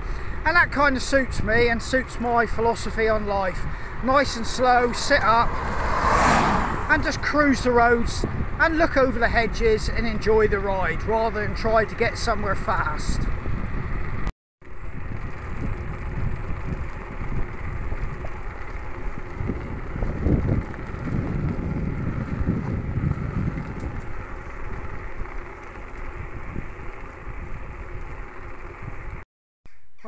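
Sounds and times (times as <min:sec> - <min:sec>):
bicycle tyres rolling on tarmac: 0:00.0 - 0:29.2
wind buffeting microphone: 0:00.2 - 0:29.2.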